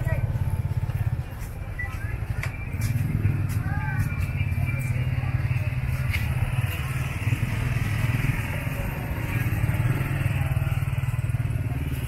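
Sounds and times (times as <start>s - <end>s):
motorbike engines rumbling: 0.0s - 12.0s
street noise: 0.0s - 12.0s.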